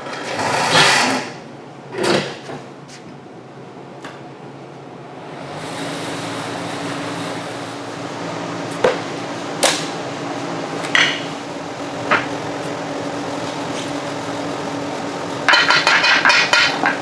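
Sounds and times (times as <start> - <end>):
machine hum: 3.2 - 17.0.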